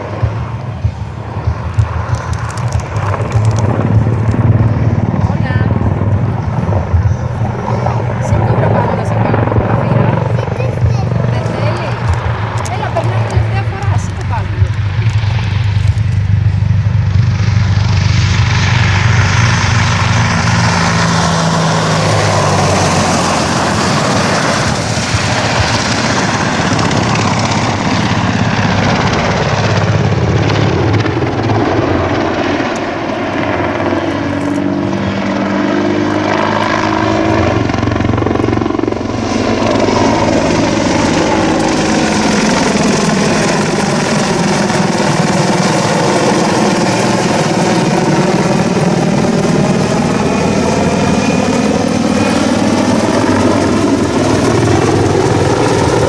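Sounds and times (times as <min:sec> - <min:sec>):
helicopter flying overhead: 0:00.0 - 0:56.0.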